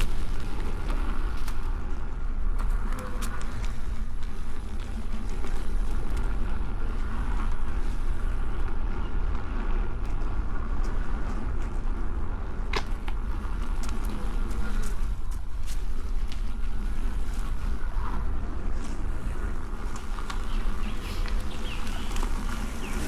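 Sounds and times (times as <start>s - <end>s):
wind rush and rumble: 0.0s - 23.0s.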